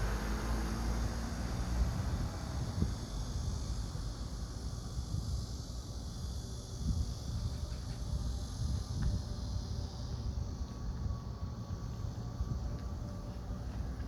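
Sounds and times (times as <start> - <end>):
wind gusting across microphone: 0.0 - 14.0.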